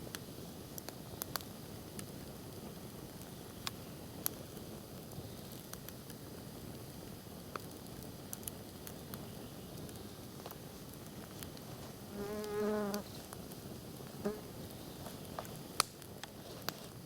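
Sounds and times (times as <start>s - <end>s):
campfire hissing: 0.0s - 17.0s
fire crackles and pops: 0.0s - 17.0s.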